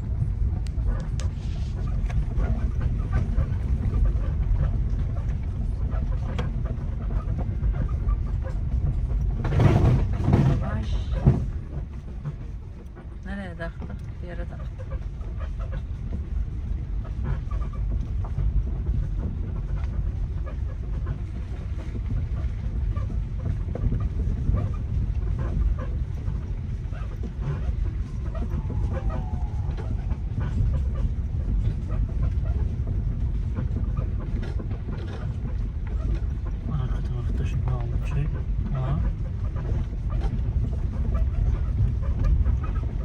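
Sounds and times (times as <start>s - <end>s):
car rumbling over rough track: 0.0s - 43.0s
knocks and rattles: 2.0s - 43.0s.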